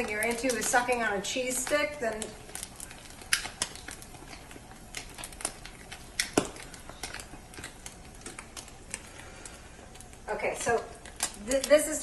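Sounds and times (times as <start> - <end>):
sharp popping: 0.0 - 11.9
food frying in a pan: 0.0 - 12.0.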